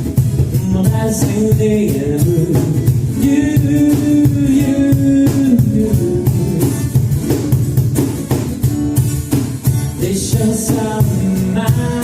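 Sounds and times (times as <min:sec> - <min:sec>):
live band playing pop music: 0:00.0 - 0:12.0.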